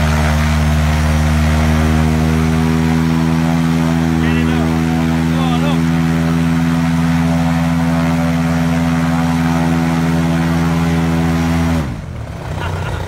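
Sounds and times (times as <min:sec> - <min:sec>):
paramotor engine and propeller running: 0:00.0 - 0:13.0.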